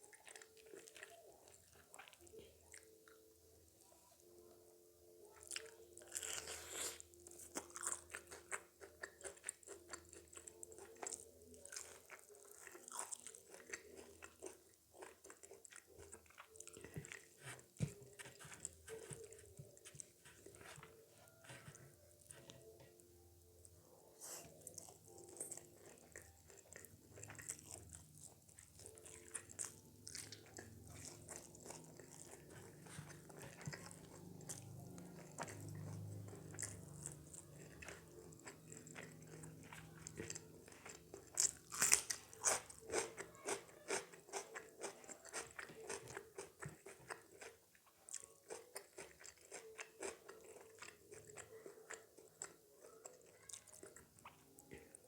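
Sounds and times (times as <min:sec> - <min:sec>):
person chewing crunchy food: 0:00.0 - 0:04.3, 0:05.3 - 0:23.2, 0:24.1 - 0:55.0.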